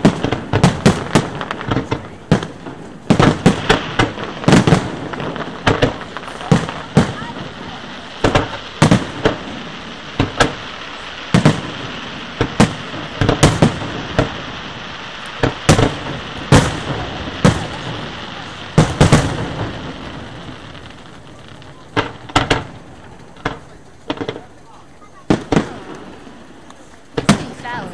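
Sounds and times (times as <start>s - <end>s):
fireworks bangs: 0.0s - 27.9s
fireworks crackle: 0.0s - 27.9s.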